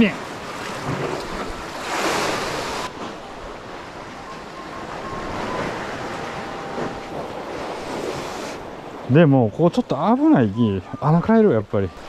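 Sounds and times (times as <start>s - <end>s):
hissing rush of water: 0.0s - 10.3s
sea waves washing: 0.0s - 12.0s.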